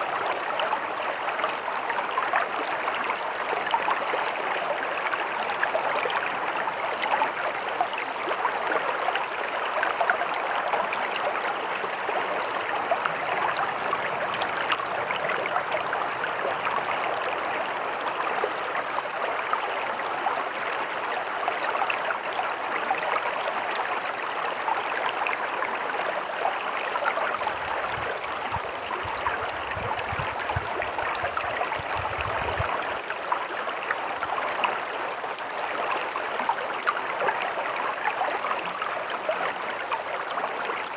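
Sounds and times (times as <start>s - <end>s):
stream running: 0.0s - 40.9s.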